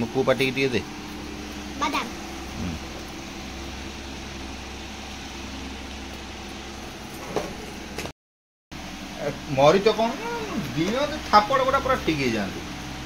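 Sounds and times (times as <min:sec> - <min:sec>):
low machine hum with hiss: 0:00.0 - 0:08.1, 0:08.8 - 0:13.0.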